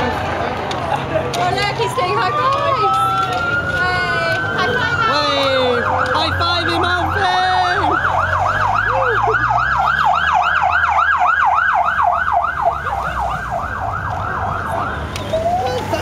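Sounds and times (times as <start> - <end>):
siren slow rising wail: 2.2 - 16.0
motorcycle siren yelping: 2.7 - 16.0.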